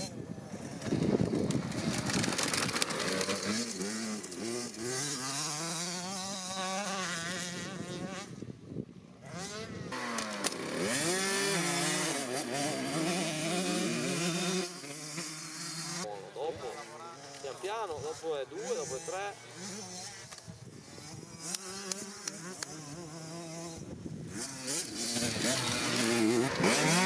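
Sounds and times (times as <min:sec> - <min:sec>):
motorcycle engine revving: 0:00.0 - 0:08.5, 0:09.2 - 0:27.0.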